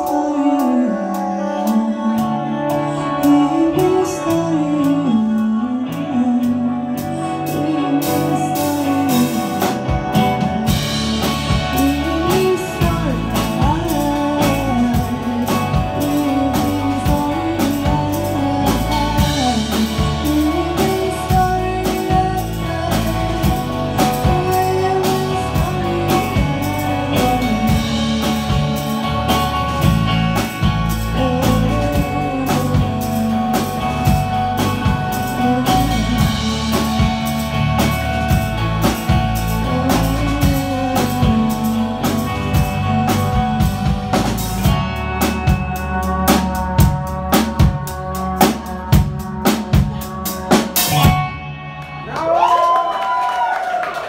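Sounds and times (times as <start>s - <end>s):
person singing: 0.0s - 53.2s
rock band playing live: 0.0s - 54.0s.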